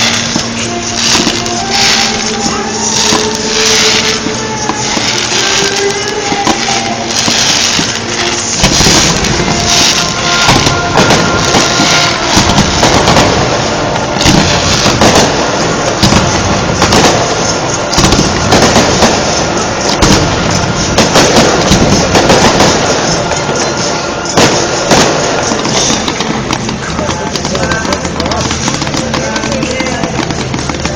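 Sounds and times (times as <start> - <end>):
fireworks bangs and crackling: 0.0 - 30.9.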